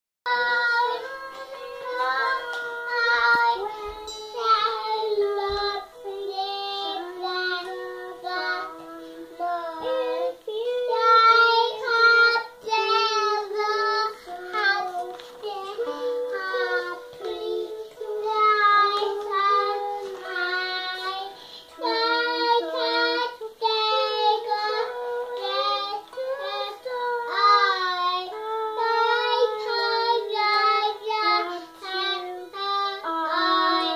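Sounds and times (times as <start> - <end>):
girl singing: 0.3 - 33.9.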